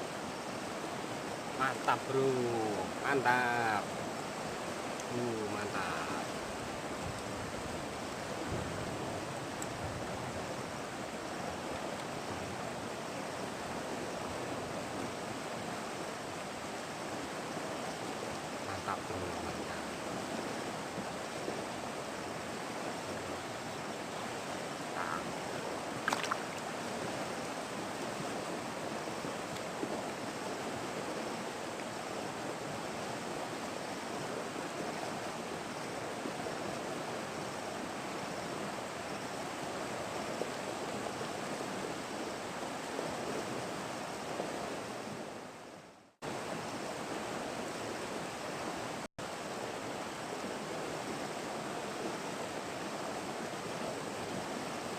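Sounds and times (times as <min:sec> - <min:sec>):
flowing river water: 0:00.0 - 0:54.9.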